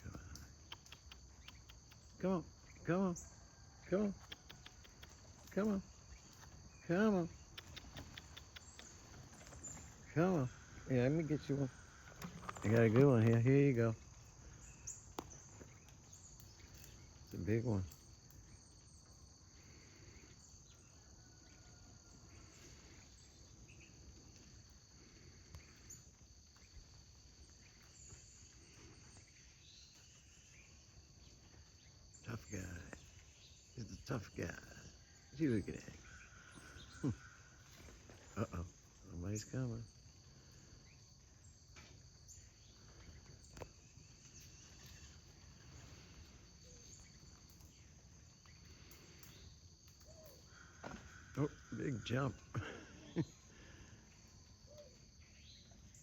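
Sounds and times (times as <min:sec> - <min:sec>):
insect chorus trilling: 0:00.0 - 0:56.0
outdoor background noise: 0:00.0 - 0:56.0.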